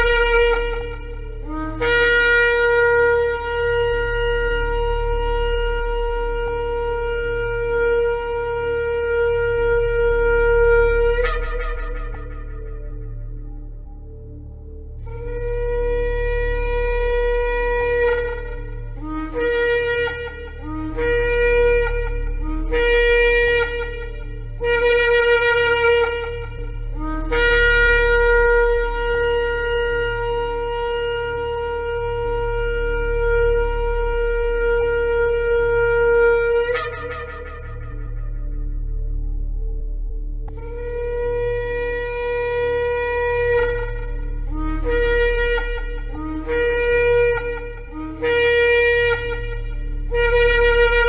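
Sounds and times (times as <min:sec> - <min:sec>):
shofar blasts: 0:00.0 - 0:51.0
steady low hum: 0:00.0 - 0:51.0.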